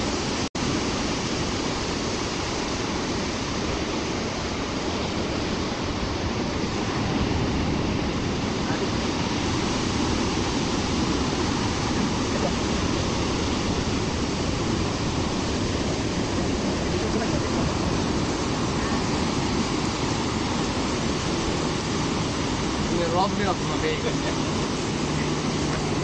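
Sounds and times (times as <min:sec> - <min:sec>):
waves breaking on rocks: 0:00.0 - 0:26.0.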